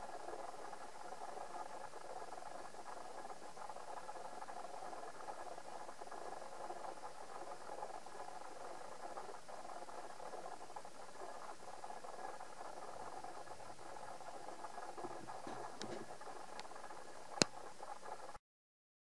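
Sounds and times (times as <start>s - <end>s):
background hiss: 0.0s - 18.4s.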